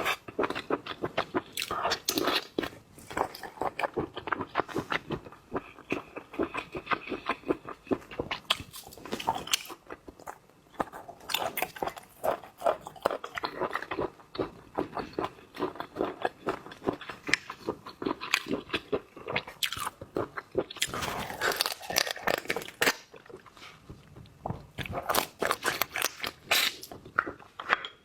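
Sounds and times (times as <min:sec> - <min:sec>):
person chewing: 0:00.0 - 0:28.0.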